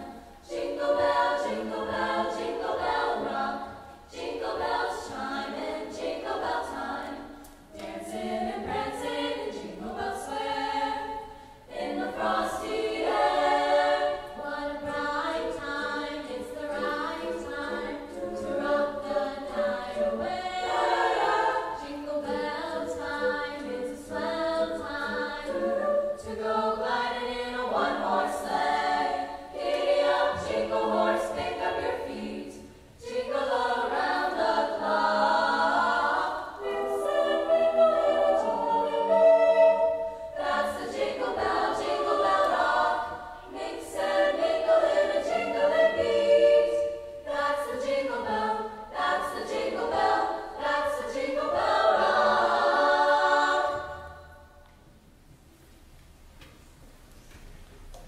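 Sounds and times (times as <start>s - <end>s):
choir singing: 0.0s - 54.6s.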